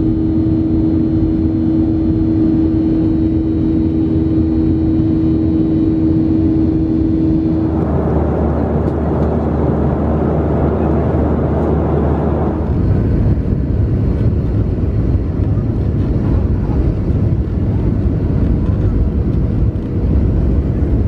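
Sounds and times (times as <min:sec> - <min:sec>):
airplane cabin engine noise: 0:00.0 - 0:21.0
steady hum: 0:00.0 - 0:21.0.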